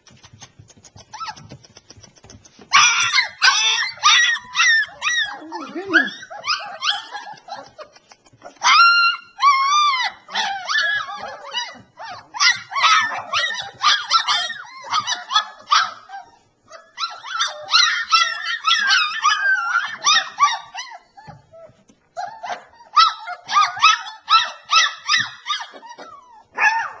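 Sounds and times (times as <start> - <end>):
puppies whimpering and yipping: 0.1 - 27.0.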